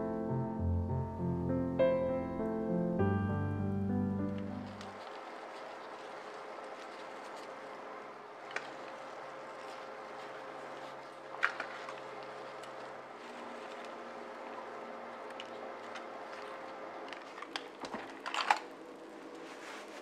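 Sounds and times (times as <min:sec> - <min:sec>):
room hum: 0:00.0 - 0:20.0.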